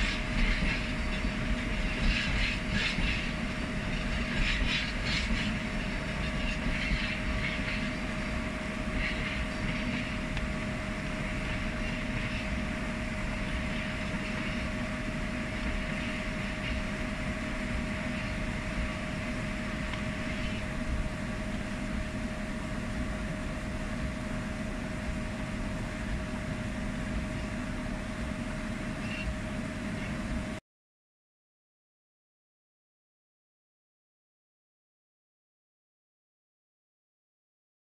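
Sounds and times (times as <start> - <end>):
constant hum: 0.0 - 30.6
freight train rumble: 0.0 - 30.6.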